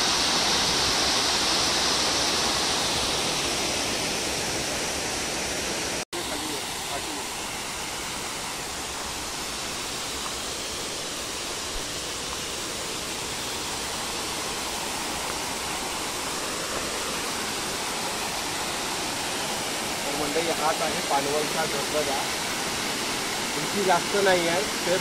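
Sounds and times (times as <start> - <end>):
waterfall splashing over rocks: 0.0 - 25.0.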